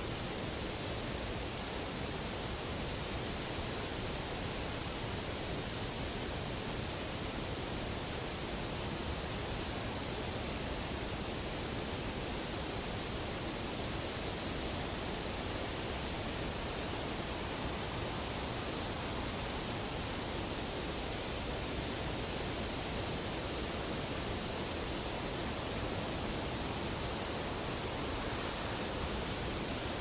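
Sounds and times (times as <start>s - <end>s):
steady outdoor hiss: 0.0s - 30.0s.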